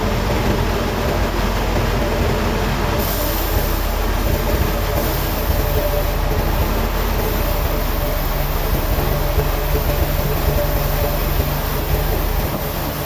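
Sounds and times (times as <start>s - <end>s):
faint steady hum: 0.0s - 13.0s
heavy machinery rumbling: 0.0s - 13.0s.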